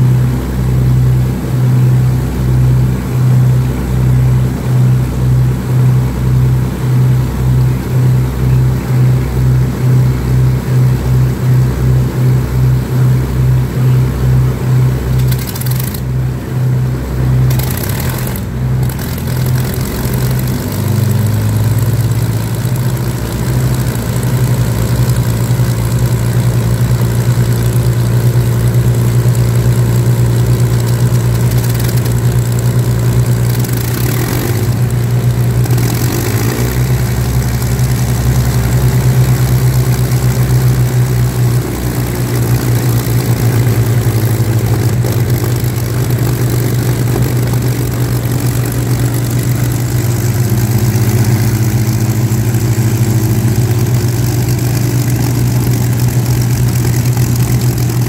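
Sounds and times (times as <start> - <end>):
piston aircraft engines idling: 0.0 - 58.0.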